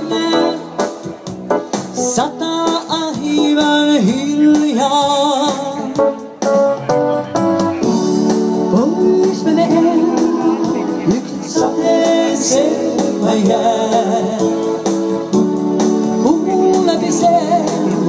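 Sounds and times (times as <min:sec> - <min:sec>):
pop song on keyboard with drum beat: 0:00.0 - 0:18.0.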